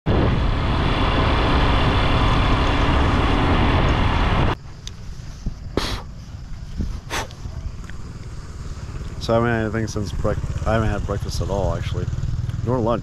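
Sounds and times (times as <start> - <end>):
road vehicle with rushing air: 0.1 - 13.0.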